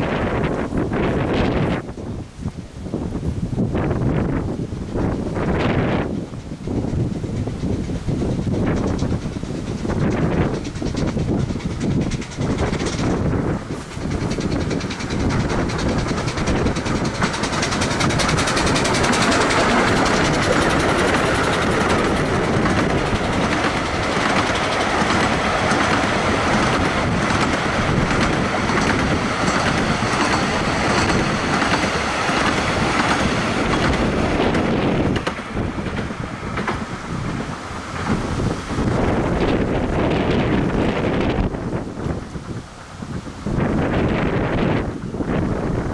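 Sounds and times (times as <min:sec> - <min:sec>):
wheels clicking over rail joints: 0:06.1 - 0:45.9.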